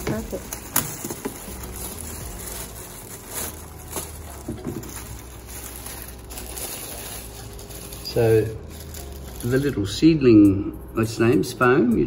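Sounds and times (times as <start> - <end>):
plastic bag rustling and crinkling: 0.0 - 10.0.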